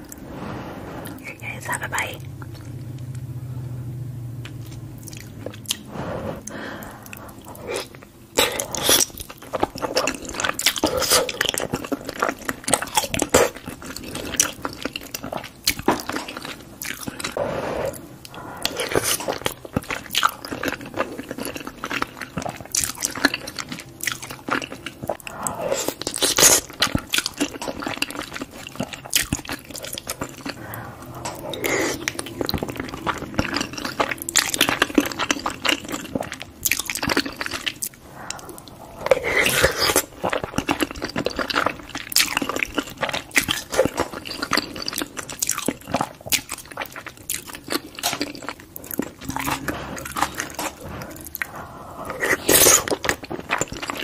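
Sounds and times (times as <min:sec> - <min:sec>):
close chewing with wet mouth clicks: 0:04.4 - 0:54.0.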